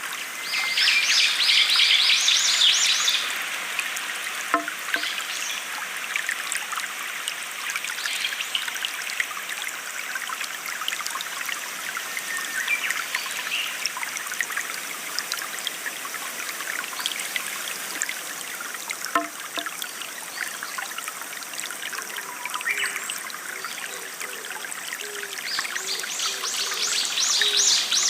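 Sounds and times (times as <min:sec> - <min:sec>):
stream trickling over stones: 0:00.0 - 0:28.0.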